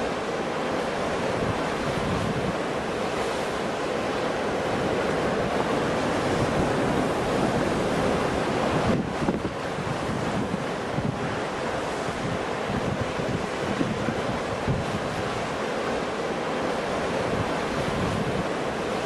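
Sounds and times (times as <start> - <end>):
ocean surf washing: 0.0 - 19.0
wind rumbling on microphone: 1.2 - 3.6, 4.6 - 15.6, 17.0 - 19.0.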